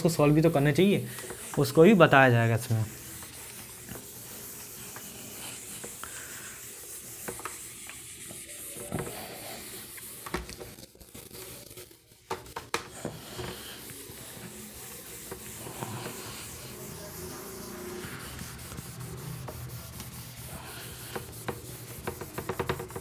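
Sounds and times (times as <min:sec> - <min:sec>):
eraser rubbing on whiteboard: 0:00.0 - 0:23.0.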